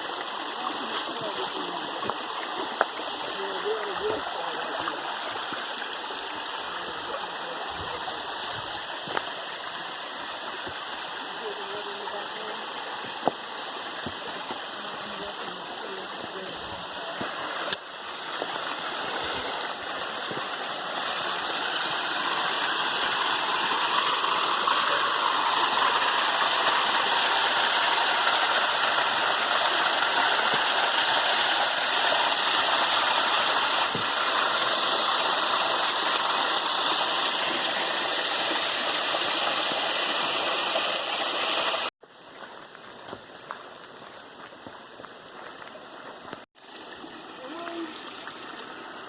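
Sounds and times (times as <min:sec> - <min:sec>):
stream rushing over rocks: 0:00.0 - 0:49.0.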